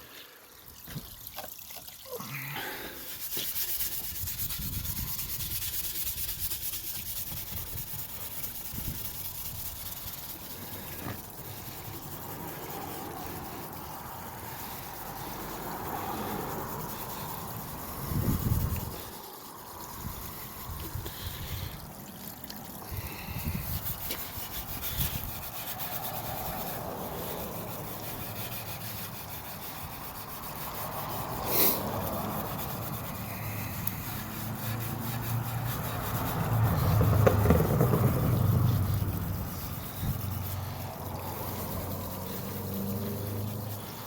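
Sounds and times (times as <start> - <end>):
abrasive pad scrubbing metal: 2.6 - 21.8, 23.0 - 44.0.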